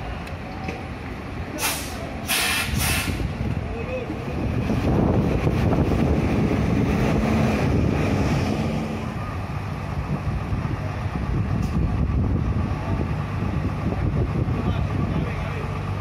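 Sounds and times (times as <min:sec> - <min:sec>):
bus diesel engine rumbling: 0:00.0 - 0:16.0
wind buffeting microphone: 0:02.7 - 0:16.0.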